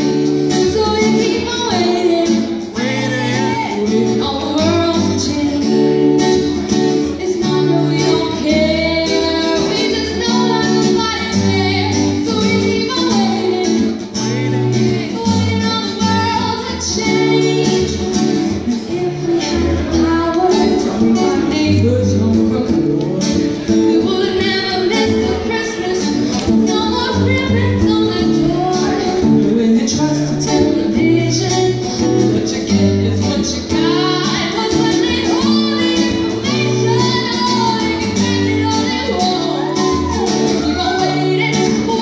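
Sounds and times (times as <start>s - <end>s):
strummed guitar: 0.0s - 42.0s
woman singing: 0.0s - 42.0s.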